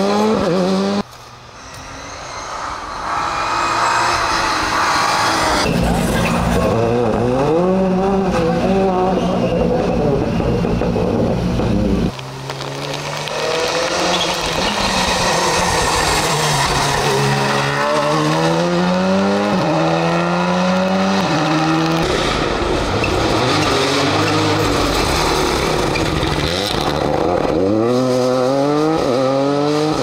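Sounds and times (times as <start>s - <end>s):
car accelerating through the gears: 1.7s - 30.0s.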